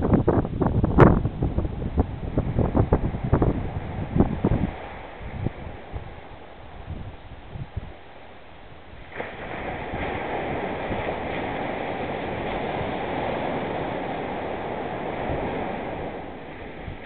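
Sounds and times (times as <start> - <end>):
wind thumps on microphone: 0.0 - 8.1, 8.7 - 17.0
foaming surf wash: 0.0 - 17.0
ocean wave breaking: 1.4 - 17.0.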